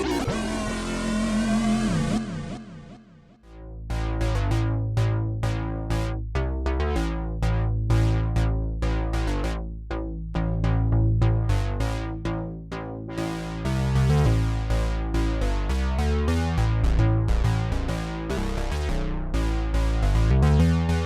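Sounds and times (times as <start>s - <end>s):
held synth bass notes: 0.0s - 21.0s
synthesizer plucked notes: 0.0s - 21.0s.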